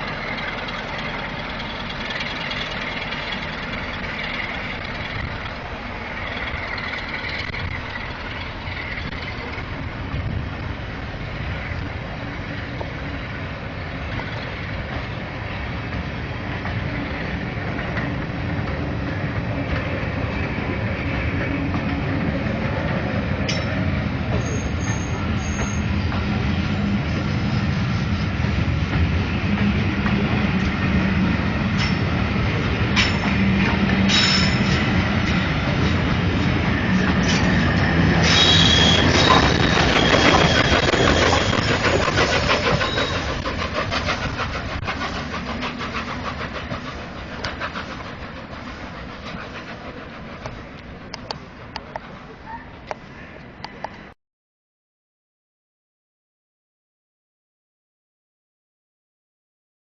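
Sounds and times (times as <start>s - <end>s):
train rumbling on track: 0.0s - 54.2s.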